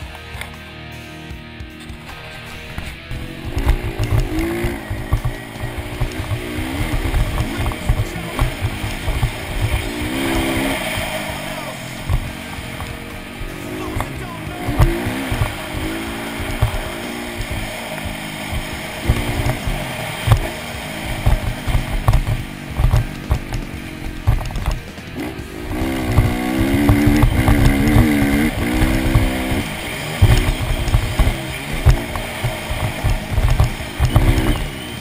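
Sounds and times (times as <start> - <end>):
dirt bike engine revving: 0.0 - 35.0
low thumping: 1.3 - 34.6.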